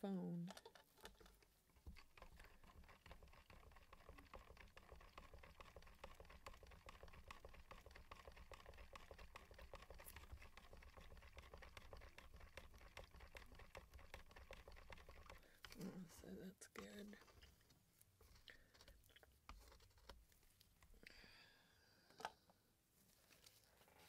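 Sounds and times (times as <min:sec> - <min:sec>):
stir stick scraping plastic cup: 0:00.5 - 0:20.3.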